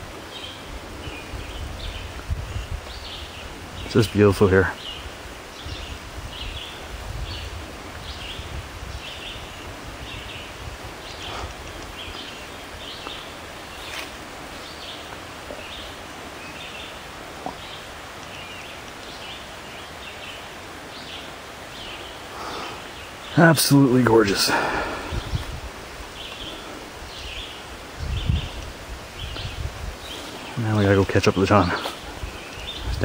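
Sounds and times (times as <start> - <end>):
rustling leaves: 0.0 - 33.0
bird chirping: 0.2 - 33.0.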